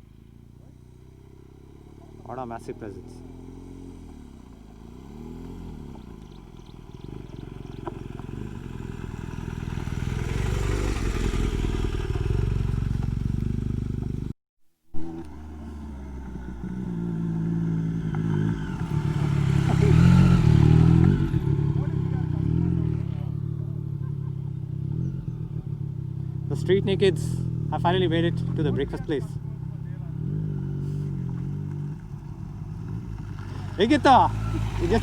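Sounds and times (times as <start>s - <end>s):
motorcycle engines revving: 0.0s - 14.3s, 15.0s - 35.0s.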